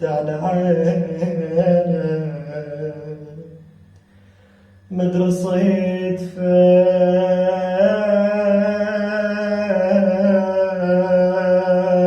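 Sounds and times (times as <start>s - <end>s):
man singing a lament: 0.0s - 3.7s, 4.9s - 12.0s.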